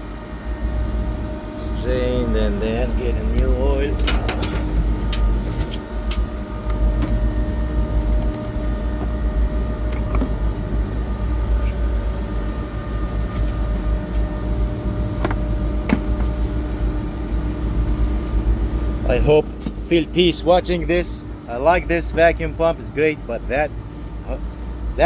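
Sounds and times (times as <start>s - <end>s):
machinery hum and rumble: 0.0s - 25.0s.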